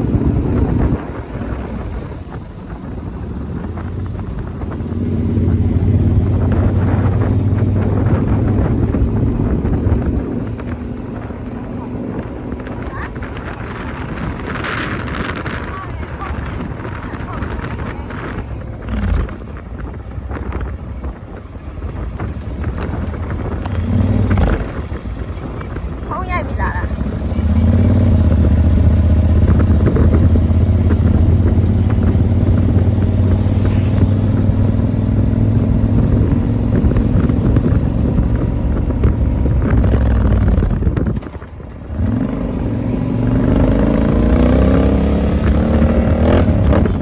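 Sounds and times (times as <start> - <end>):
motorcycle engine running: 0.0 - 47.0
wind buffeting microphone: 0.0 - 47.0.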